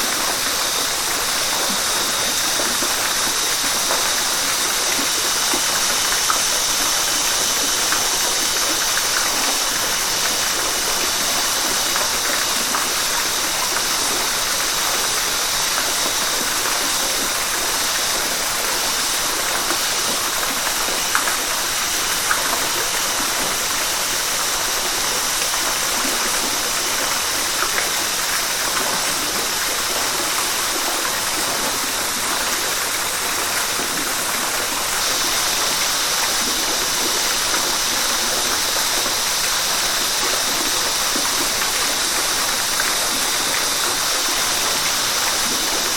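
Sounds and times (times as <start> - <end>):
flowing river water: 0.0 - 45.9.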